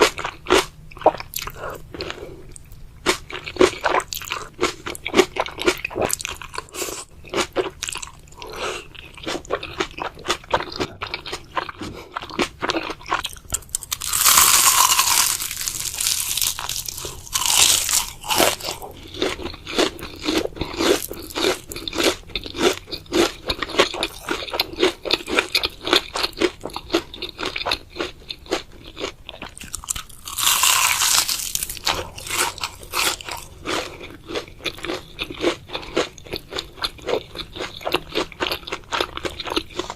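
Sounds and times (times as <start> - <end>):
person chewing noodles: 0.0 - 39.9.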